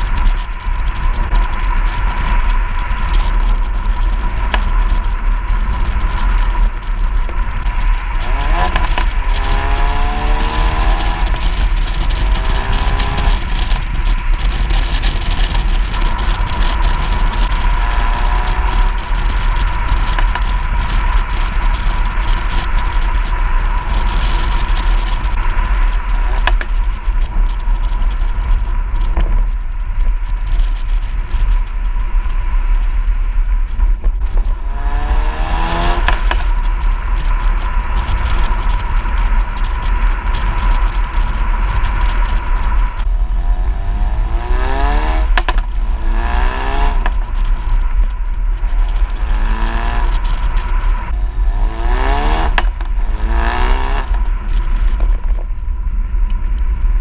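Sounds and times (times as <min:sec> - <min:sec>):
car engine accelerating: 0:00.0 - 0:57.0
wind rumble on microphone: 0:00.0 - 0:57.0.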